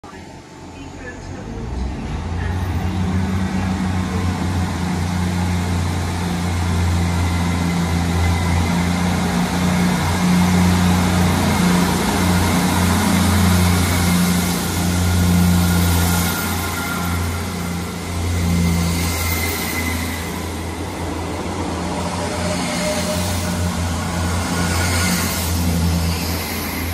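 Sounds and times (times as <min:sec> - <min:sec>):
diesel train engines droning: 0:00.0 - 0:26.9.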